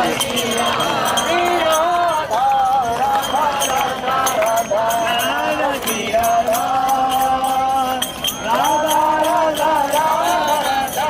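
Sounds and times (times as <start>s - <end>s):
devotional chanting: 0.0s - 11.0s
jingling small bells: 0.0s - 11.0s.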